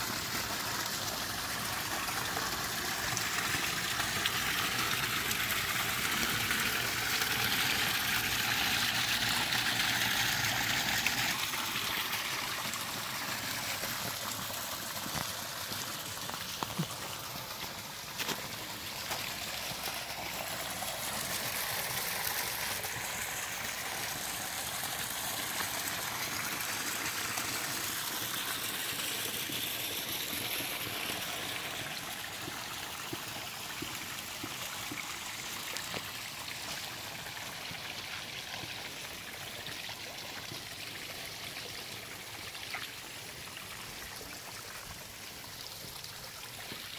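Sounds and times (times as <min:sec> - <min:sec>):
water splashing over small waterfall: 0:00.0 - 0:46.9
water trickling down rocky stream: 0:00.0 - 0:46.9.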